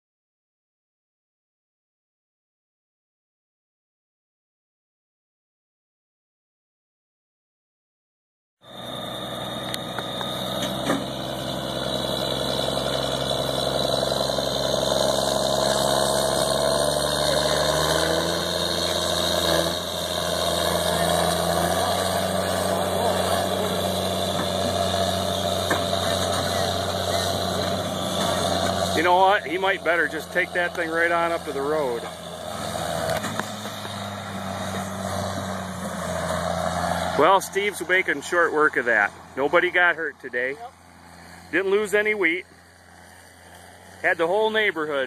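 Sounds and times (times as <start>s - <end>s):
vehicle engine running: 8.6s - 45.0s.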